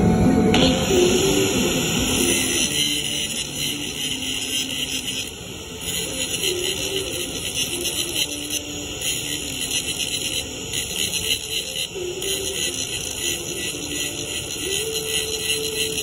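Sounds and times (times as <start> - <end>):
angle grinder grinding metal: 0.5 - 16.0.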